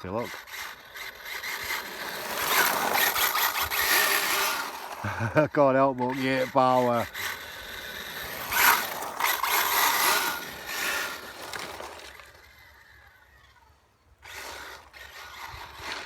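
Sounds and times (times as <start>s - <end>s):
electric toy car throttle bursts: 0.0s - 16.0s.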